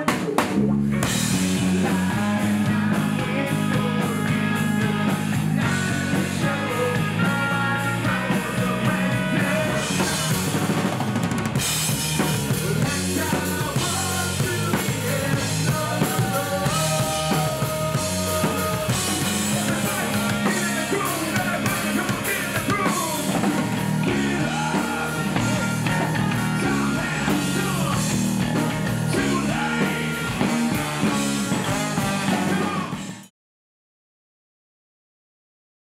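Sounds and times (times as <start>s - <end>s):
drum kit: 0.0s - 33.3s
electric bass: 0.0s - 33.3s
electric guitar: 0.0s - 33.3s
person singing: 1.6s - 10.9s, 12.5s - 33.2s.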